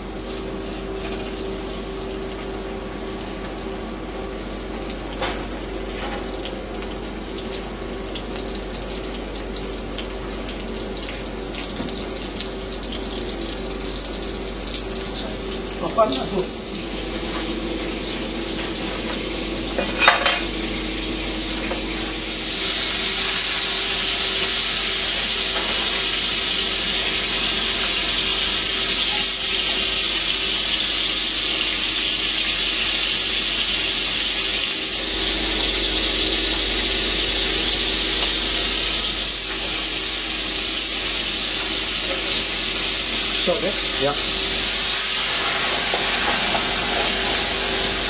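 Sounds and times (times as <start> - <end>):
food sizzling in a frying pan: 0.0 - 48.0.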